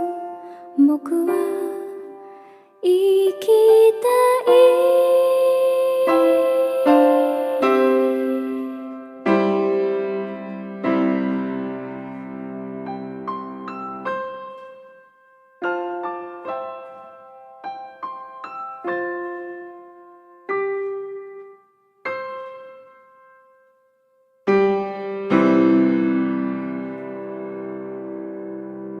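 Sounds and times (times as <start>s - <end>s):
slow piano notes and chords: 0.0s - 29.0s.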